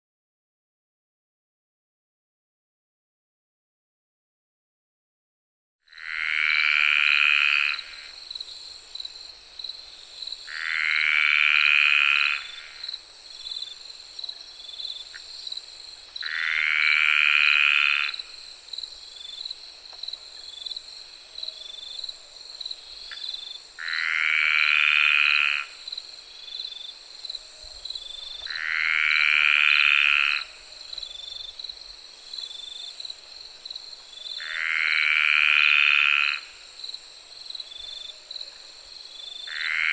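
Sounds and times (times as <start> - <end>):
distant insects humming: 5.9 - 39.9.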